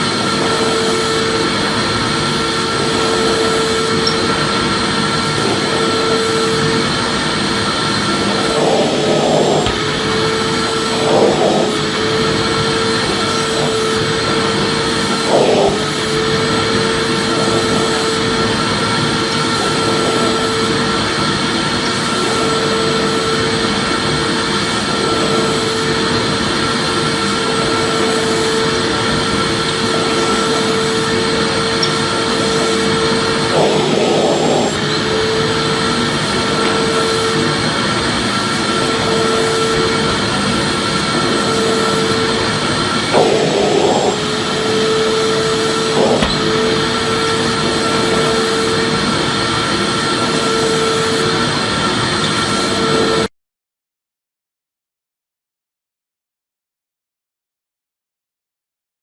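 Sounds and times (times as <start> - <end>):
vacuum cleaner running: 0.0 - 53.3.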